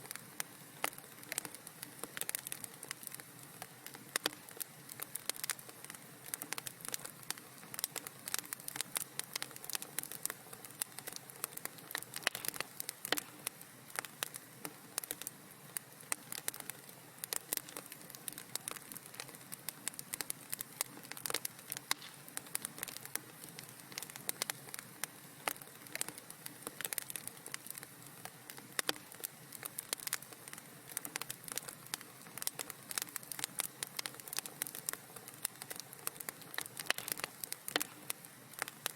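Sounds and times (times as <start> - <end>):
soft hiss: 0.0 - 38.9
wood fire crackling and popping: 0.0 - 38.9.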